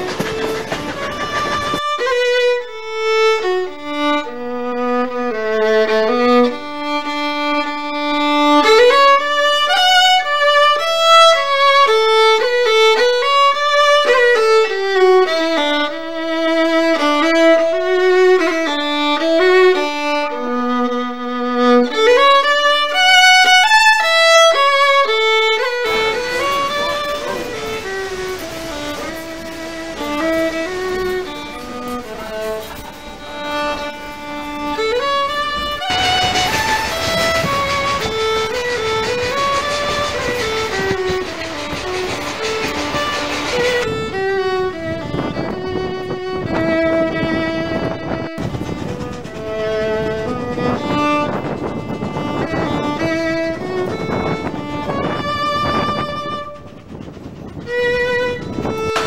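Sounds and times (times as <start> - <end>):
moving train noise: 0.0 - 59.0
solo fiddle melody: 0.0 - 59.0.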